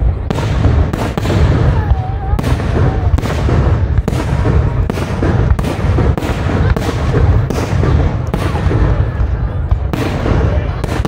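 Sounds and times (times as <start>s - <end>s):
rumble of booms: 0.0s - 11.0s.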